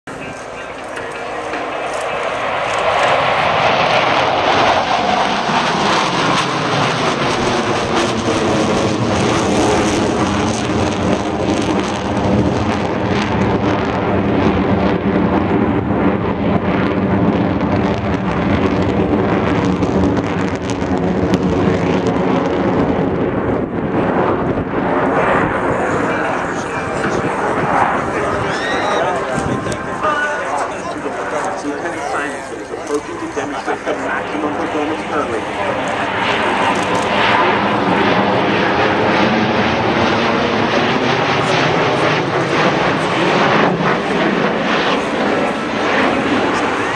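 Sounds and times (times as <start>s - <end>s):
jet engines roaring overhead: 0.1s - 46.9s.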